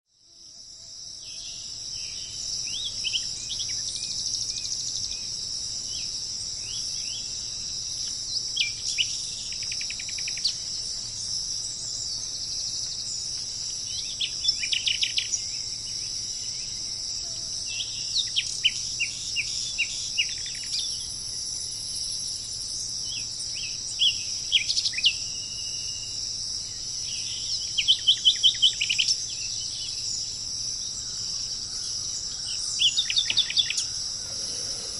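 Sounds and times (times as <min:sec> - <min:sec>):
insects droning: 0:00.1 - 0:34.9
bird chirping: 0:01.2 - 0:17.1, 0:17.7 - 0:34.9.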